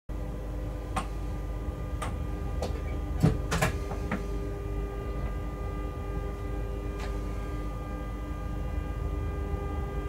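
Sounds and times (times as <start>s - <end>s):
locomotive cab hum: 0.1s - 10.0s.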